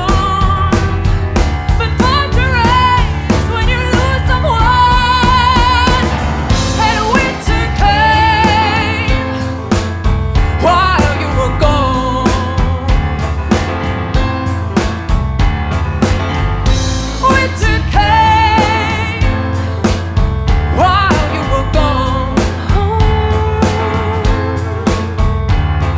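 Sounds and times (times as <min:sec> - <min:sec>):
person singing with vibrato: 0:00.0 - 0:13.5, 0:17.0 - 0:25.4
live blues-rock band: 0:00.0 - 0:25.9.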